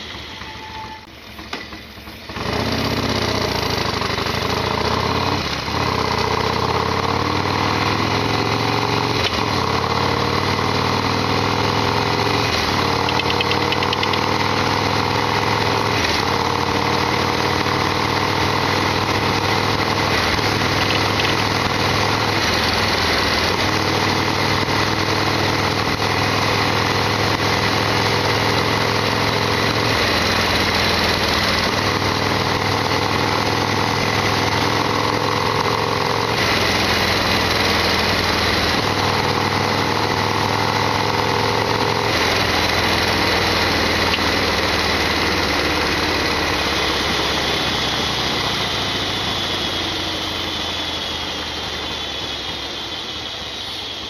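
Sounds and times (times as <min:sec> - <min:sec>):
motorcycle engine starting and idling: 0:00.0 - 0:52.8.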